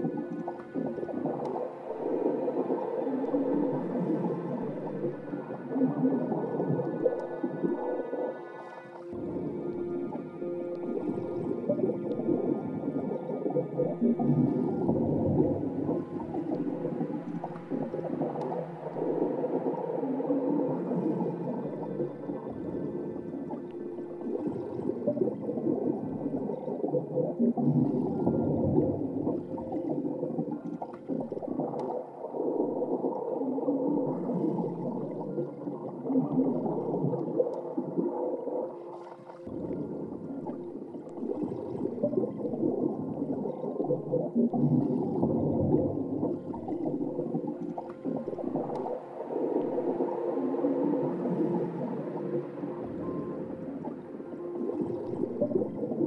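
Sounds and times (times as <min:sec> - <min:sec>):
faint steady tones: 0:00.0 - 0:56.0
underwater gurgling and rumbling: 0:00.0 - 0:56.0.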